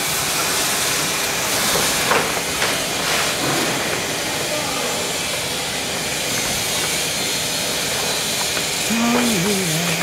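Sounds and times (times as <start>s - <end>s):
machinery hissing: 0.0s - 10.0s.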